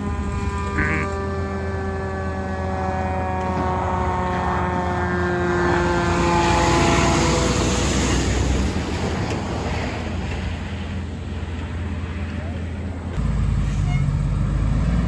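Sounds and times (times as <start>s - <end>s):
road noise: 0.0s - 15.0s
truck engine droning past: 0.0s - 15.0s.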